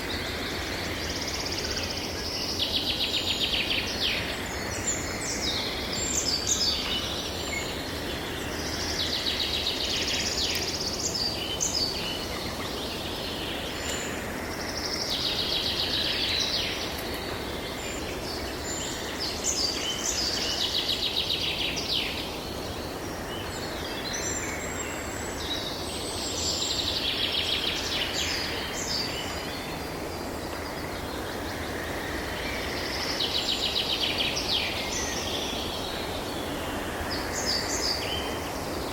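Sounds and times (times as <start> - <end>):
songbird singing: 0.0 - 38.9
wind: 0.0 - 38.9.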